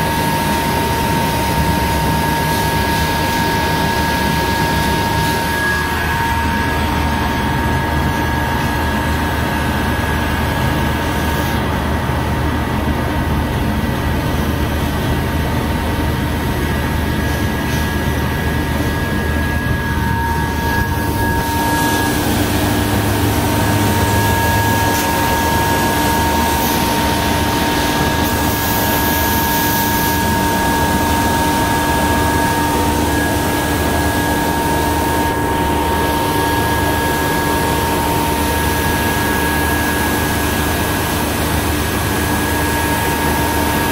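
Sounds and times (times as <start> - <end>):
deburring machine droning and whining: 0.0 - 43.9.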